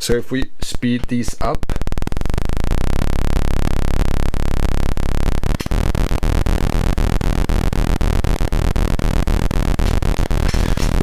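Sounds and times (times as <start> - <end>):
harsh buzzy synth tone: 1.3 - 11.0.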